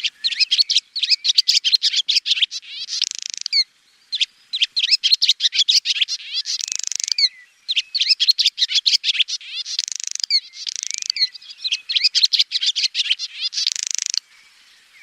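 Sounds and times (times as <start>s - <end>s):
swallow chirping and twittering: 0.0s - 15.0s.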